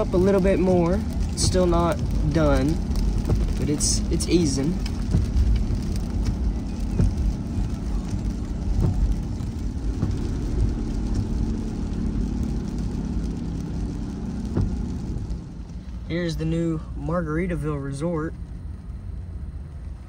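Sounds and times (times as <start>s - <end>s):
car driving on wet road: 0.0s - 20.0s.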